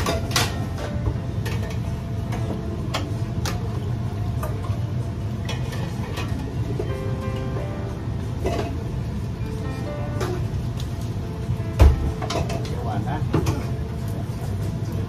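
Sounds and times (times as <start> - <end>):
kitchen ventilation hum: 0.0 - 15.0.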